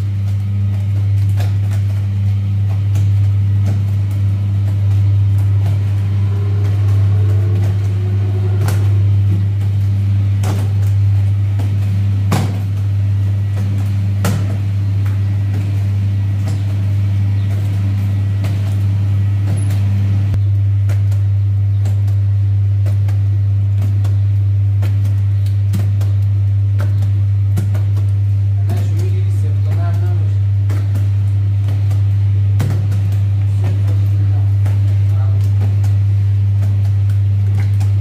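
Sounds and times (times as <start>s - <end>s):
loud low mechanical hum: 0.0s - 38.0s.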